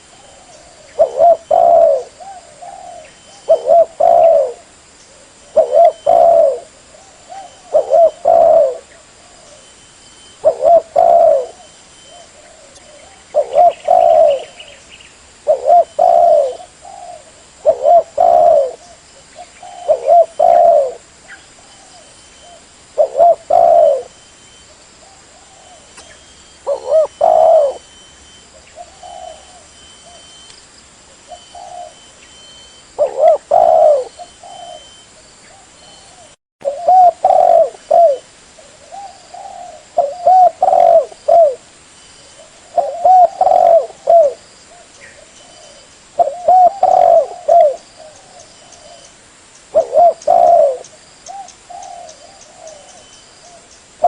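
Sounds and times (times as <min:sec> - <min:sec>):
dove cooing: 0:00.0 - 0:30.4, 0:31.2 - 0:41.7, 0:42.3 - 0:53.7.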